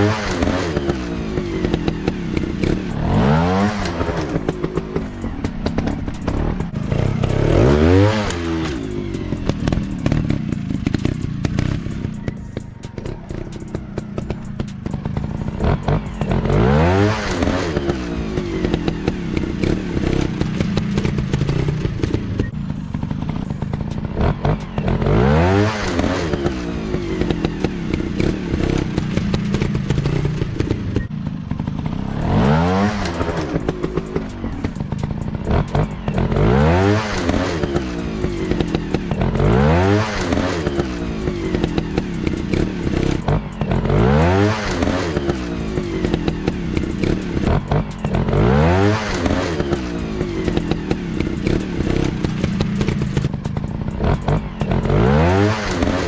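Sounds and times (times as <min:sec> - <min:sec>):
trail bike engines revving: 0:00.0 - 0:56.0.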